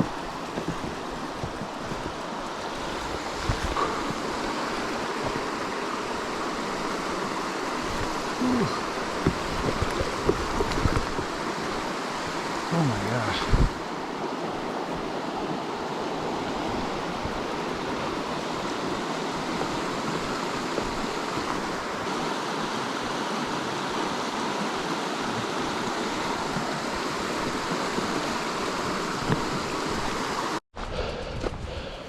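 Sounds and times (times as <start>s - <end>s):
river water rushing: 0.0s - 30.6s.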